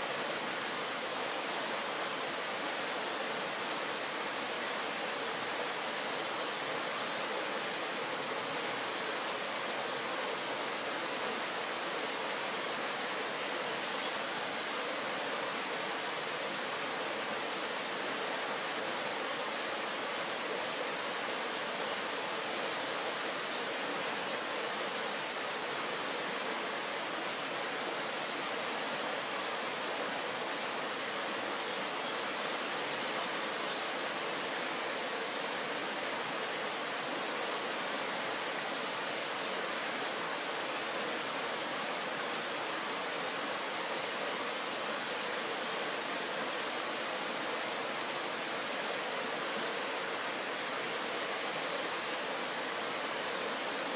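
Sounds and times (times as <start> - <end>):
stream rushing over stones: 0.0 - 53.9.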